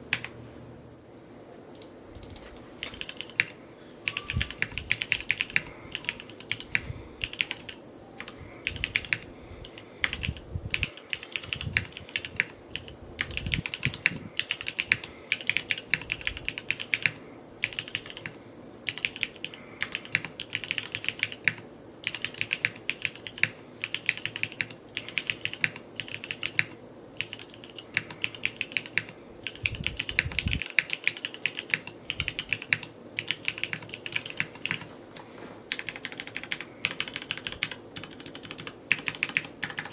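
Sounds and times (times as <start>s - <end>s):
mechanical keyboard typing: 1.8s - 34.9s, 35.7s - 39.9s.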